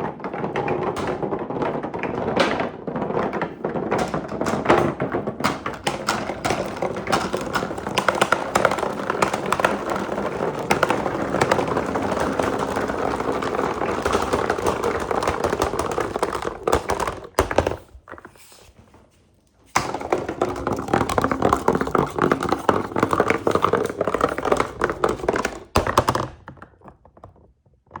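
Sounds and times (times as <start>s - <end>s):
marbles rolling and clattering: 0.0s - 18.6s, 19.7s - 27.4s.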